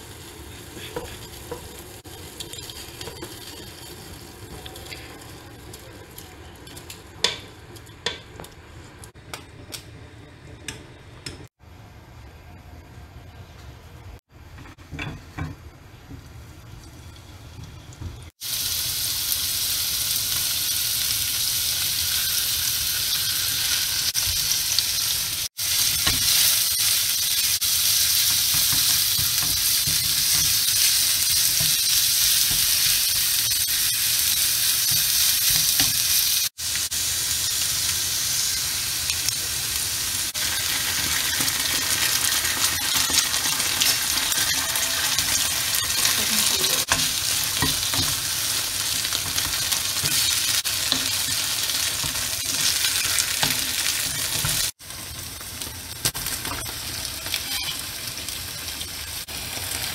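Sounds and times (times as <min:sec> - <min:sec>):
meat sizzling in a pan: 0:00.0 - 0:07.4, 0:17.4 - 0:59.9.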